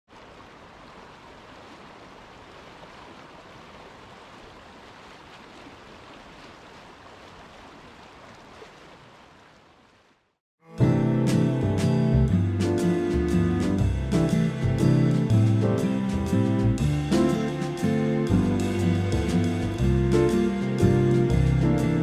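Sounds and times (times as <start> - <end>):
river water rushing: 0.1 - 22.0.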